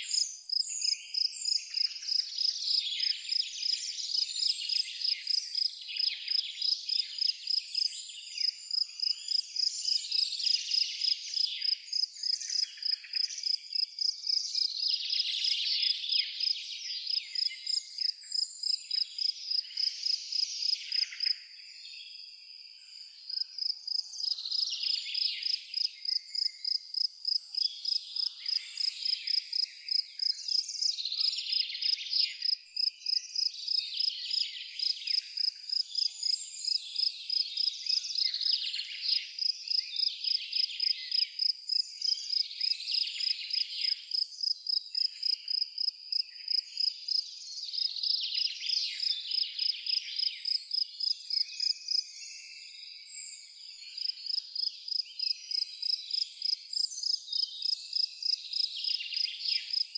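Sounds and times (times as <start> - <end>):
insect chirping: 0.0 - 15.2, 15.8 - 59.9
birds calling and singing: 0.0 - 59.9.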